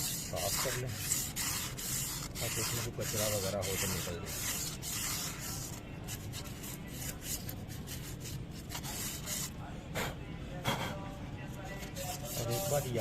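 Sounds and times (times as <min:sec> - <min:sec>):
sandpaper scraping metal drum: 0:00.0 - 0:09.5, 0:11.8 - 0:13.0.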